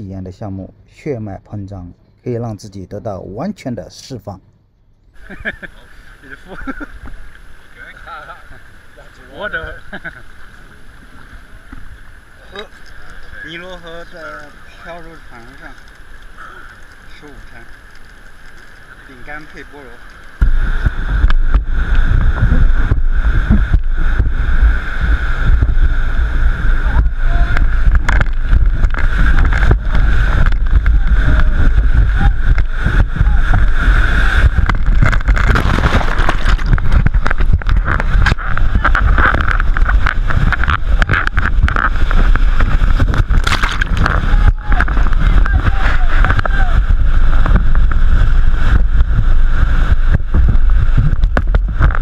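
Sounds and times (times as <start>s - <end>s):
water splashing on microphone: 6.9s - 52.0s.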